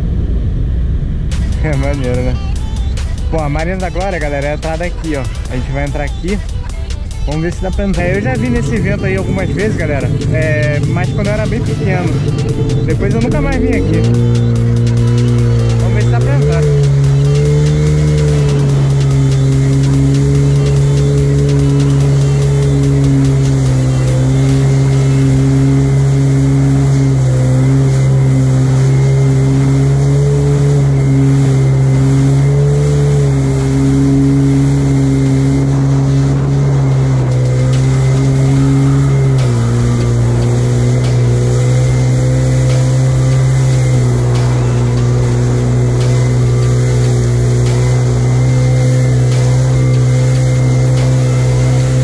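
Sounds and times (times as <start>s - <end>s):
jet ski engine droning: 0.0s - 52.0s
water spray rushing: 2.9s - 52.0s.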